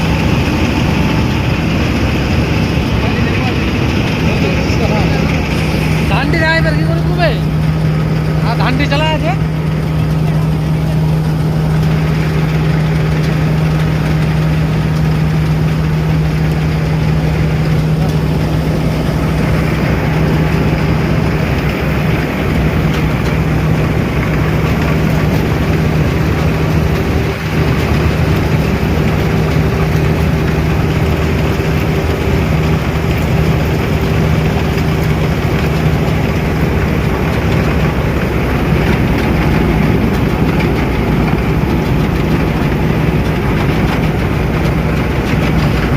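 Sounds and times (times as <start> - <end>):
tractor engine humming: 0.0 - 45.9.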